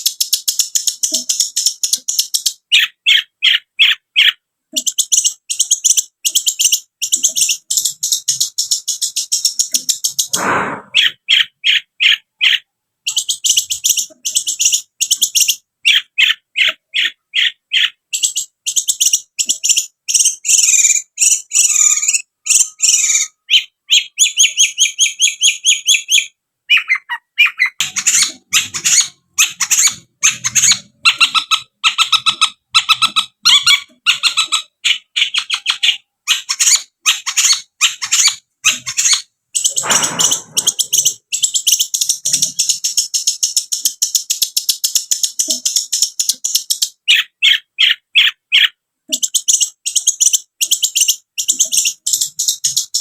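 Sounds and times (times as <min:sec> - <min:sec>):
bird chattering song: 0:00.0 - 0:53.0.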